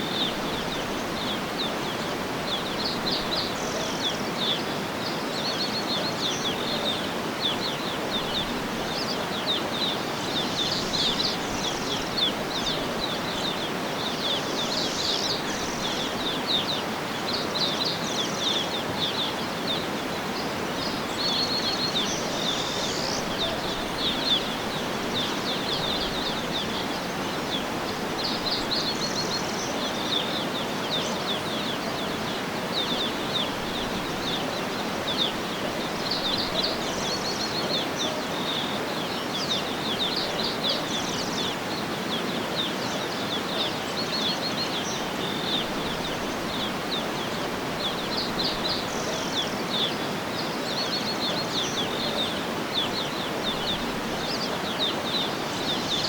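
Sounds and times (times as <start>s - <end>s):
birds chirping and trilling: 0.0s - 56.0s
steady background hiss: 0.0s - 56.0s.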